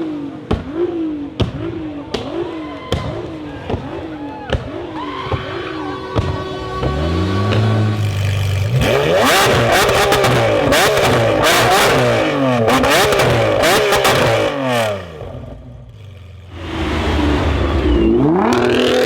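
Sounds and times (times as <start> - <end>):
car engine revving in blips: 0.0 - 19.0
exhaust popping crackles: 0.4 - 19.0.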